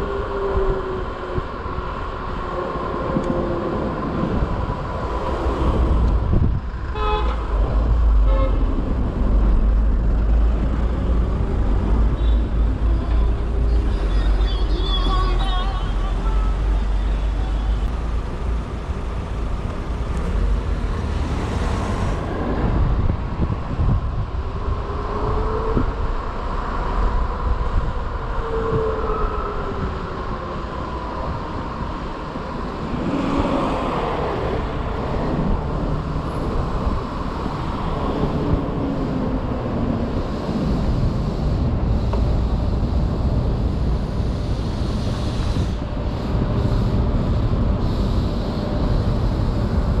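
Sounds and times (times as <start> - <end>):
passing traffic: 0.0 - 50.0
wind and road rumble: 0.0 - 50.0.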